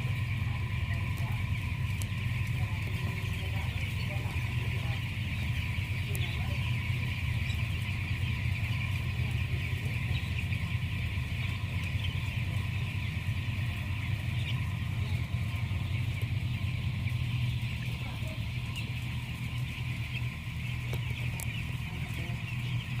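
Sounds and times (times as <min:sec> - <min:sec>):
chicks peeping: 0:00.0 - 0:23.0
low machine hum: 0:00.0 - 0:23.0.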